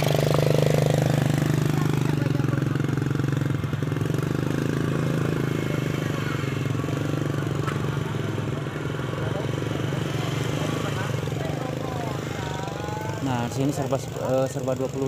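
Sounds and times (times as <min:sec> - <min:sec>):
scooter engines running: 0:00.0 - 0:15.0.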